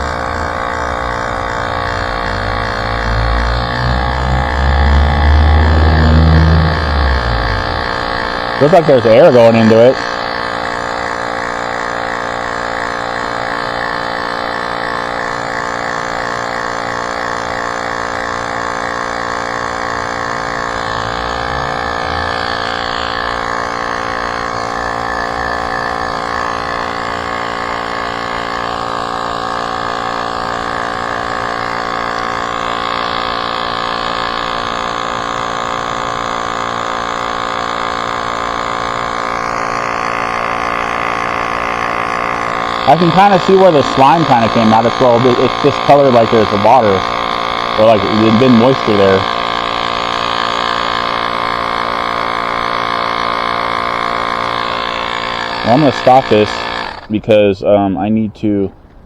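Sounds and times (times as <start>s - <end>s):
electric tyre pump motor hum: 0.0s - 57.9s.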